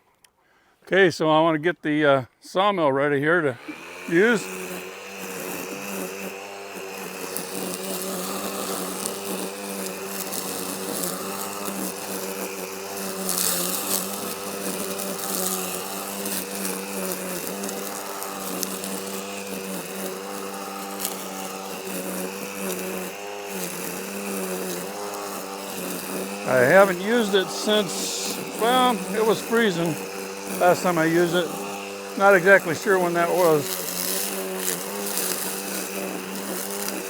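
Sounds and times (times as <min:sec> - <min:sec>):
small motor buzzing: 0:03.4 - 0:37.0.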